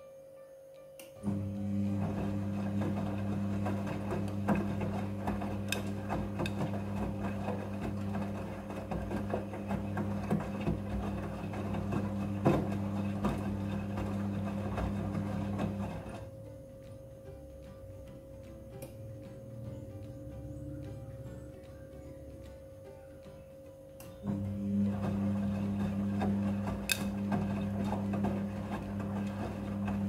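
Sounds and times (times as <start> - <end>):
washing machine motor hum: 1.2 - 30.0.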